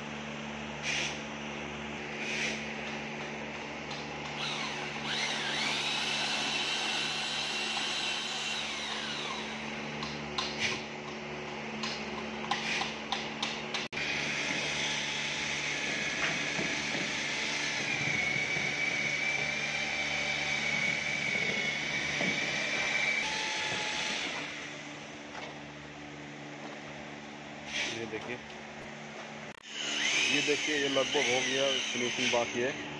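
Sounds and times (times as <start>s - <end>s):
drill paddle mixer whirring: 0.0s - 25.4s, 27.5s - 28.3s, 29.5s - 32.9s
workshop hum: 0.0s - 32.9s.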